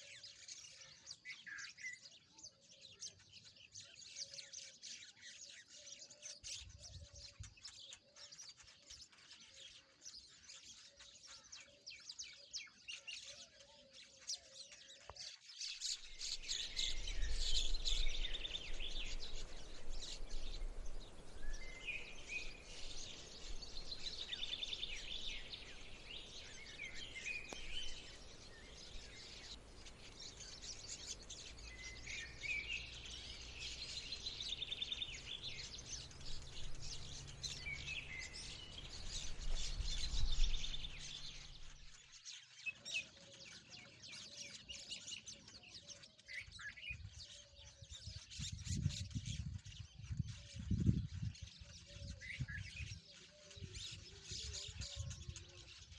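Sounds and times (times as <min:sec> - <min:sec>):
lovebirds chirping: 0:00.0 - 0:55.9.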